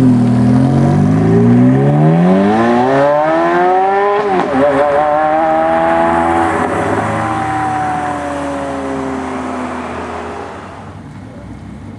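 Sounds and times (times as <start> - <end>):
sports car accelerating: 0.0 - 11.9.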